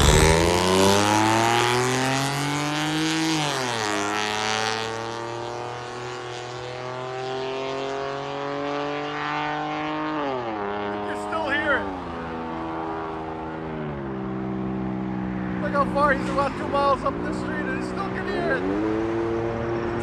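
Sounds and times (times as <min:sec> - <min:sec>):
truck engine accelerating: 0:00.0 - 0:07.4, 0:10.8 - 0:20.0.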